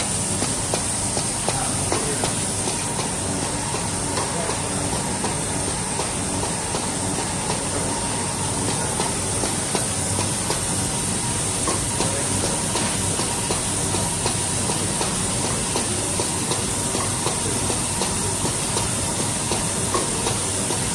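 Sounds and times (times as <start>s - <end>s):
machine mechanical hum: 0.0s - 20.9s.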